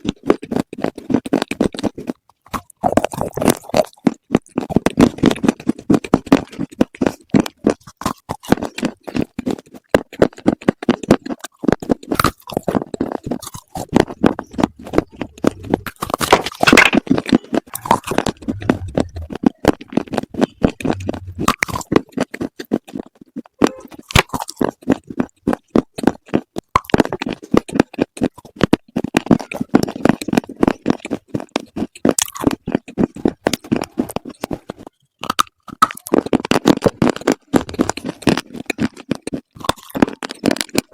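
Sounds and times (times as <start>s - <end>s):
chewing and crunching: 0.0s - 40.9s.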